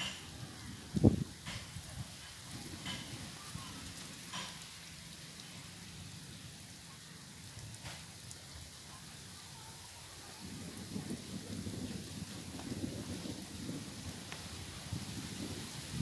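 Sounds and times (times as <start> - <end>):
wind rumbling on microphone: 0.0 - 4.5, 7.4 - 16.0.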